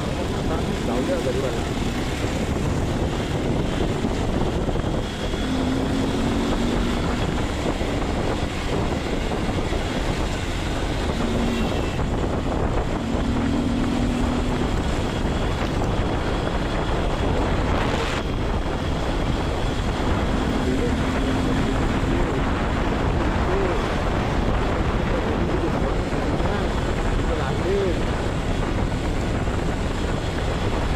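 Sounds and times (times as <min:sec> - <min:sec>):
road and traffic noise: 0:00.0 - 0:30.9
wind buffeting microphone: 0:00.0 - 0:30.9.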